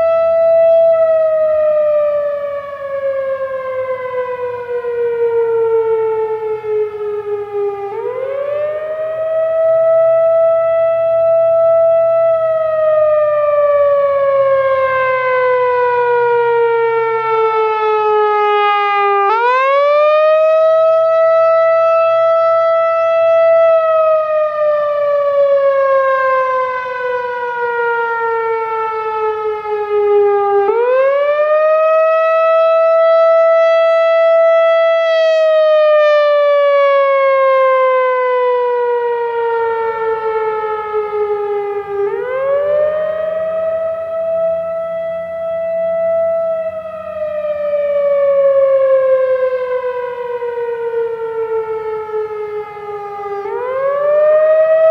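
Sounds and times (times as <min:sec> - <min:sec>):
wailing warning siren: 0:00.0 - 0:54.9.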